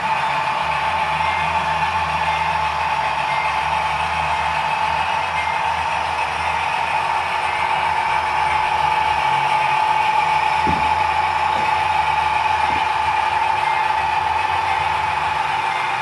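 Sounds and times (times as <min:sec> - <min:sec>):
model train diesel engine sound: 0:00.0 - 0:16.0
model train wheels on track: 0:00.0 - 0:16.0.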